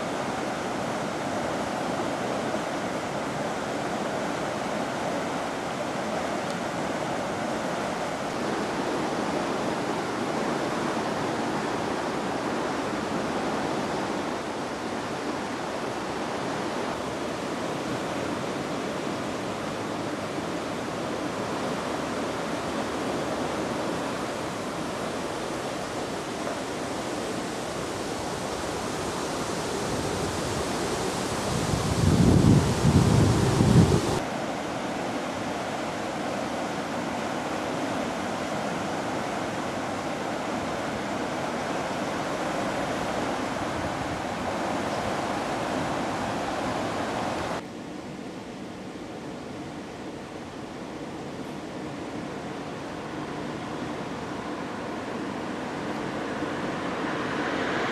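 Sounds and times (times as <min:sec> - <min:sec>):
river rushing: 0:00.0 - 0:57.9.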